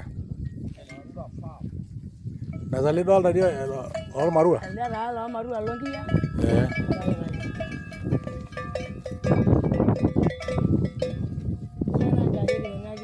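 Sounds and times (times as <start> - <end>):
cowbells clanking: 0.8 - 1.5, 2.5 - 13.0.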